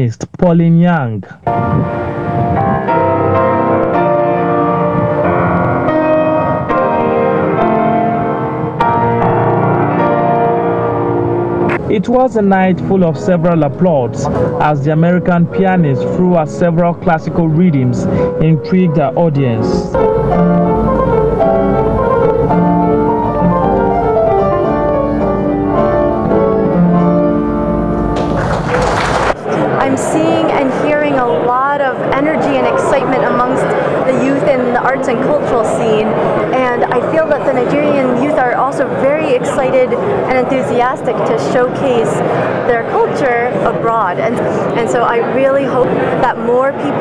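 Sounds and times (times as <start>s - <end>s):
solo grand piano chords: 1.5s - 44.1s.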